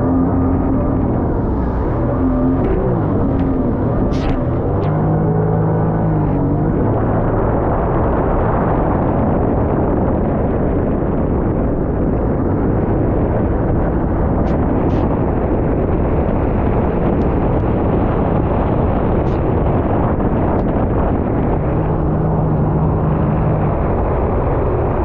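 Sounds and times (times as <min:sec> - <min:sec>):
personal watercraft engine: 0:00.0 - 0:25.0
wind buffeting microphone: 0:00.0 - 0:25.0.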